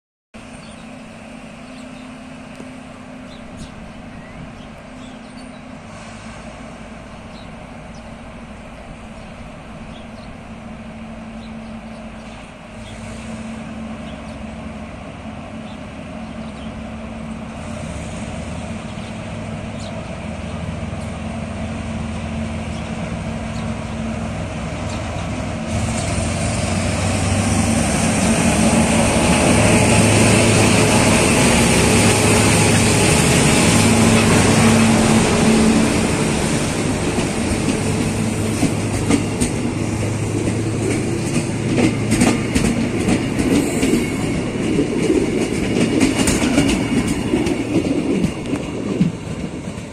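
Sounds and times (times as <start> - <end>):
diesel locomotive engine running: 0.4 - 49.9.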